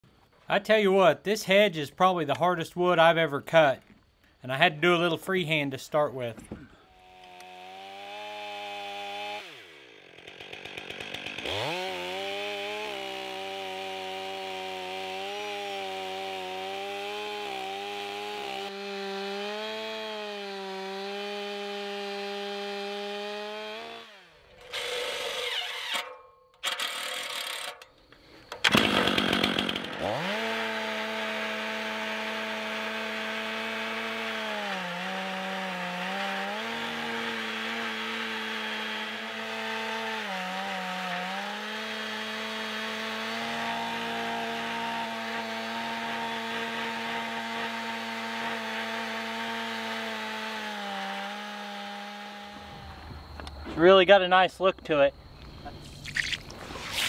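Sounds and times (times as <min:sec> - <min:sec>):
chainsaw cutting wood: 0:06.4 - 0:53.6, 0:55.8 - 0:57.0.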